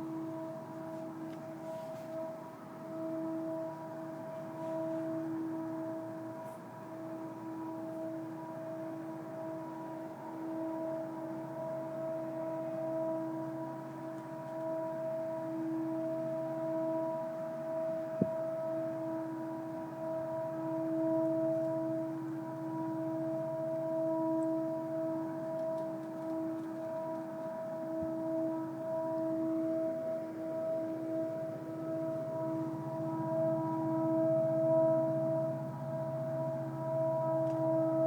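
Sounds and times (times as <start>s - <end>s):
droning hum of held tones: 0.0s - 38.0s.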